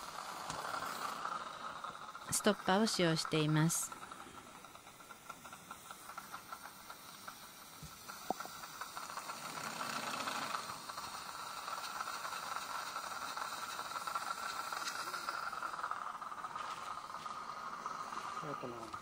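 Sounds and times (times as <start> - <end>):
hiss of suction and irrigation: 0.0 - 19.0.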